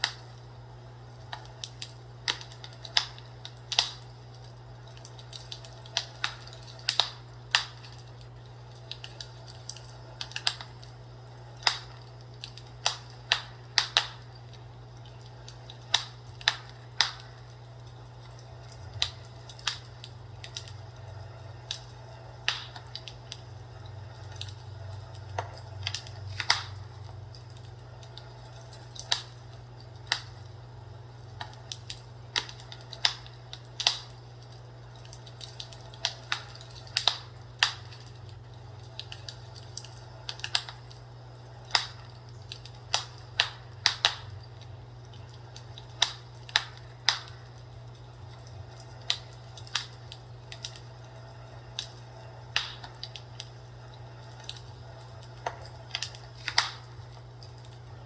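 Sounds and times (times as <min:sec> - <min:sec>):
fireplace crackling: 0:00.0 - 0:58.0
steady low hum: 0:00.0 - 0:58.0.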